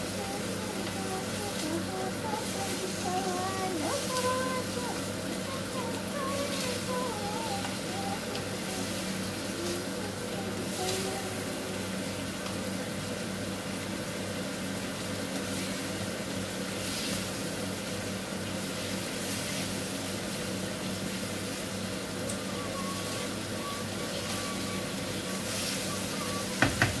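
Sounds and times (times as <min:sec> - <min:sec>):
steady low hum: 0:00.0 - 0:26.6
livers sizzling in a frying pan: 0:00.0 - 0:27.0.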